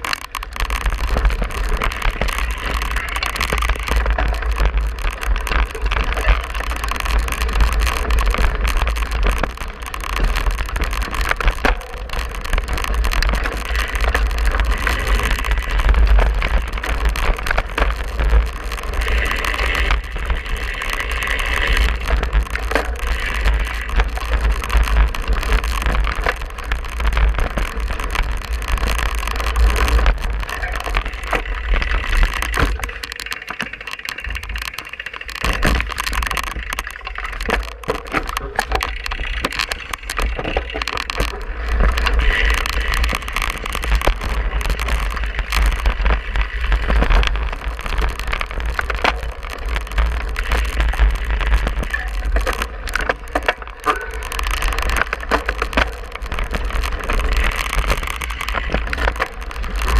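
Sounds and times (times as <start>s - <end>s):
bike tyre noise: 0.0s - 59.9s
clicking rattle from bike: 0.0s - 59.9s.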